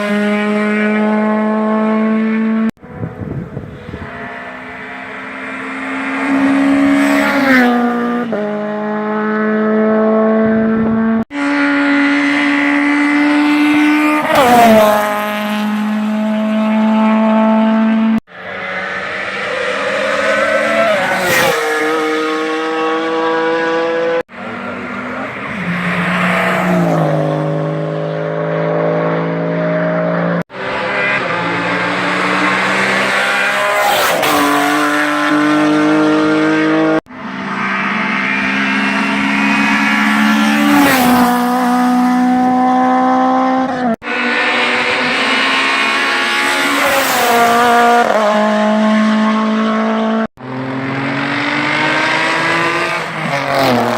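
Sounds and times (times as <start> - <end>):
race cars passing at full throttle: 0.0 - 53.9.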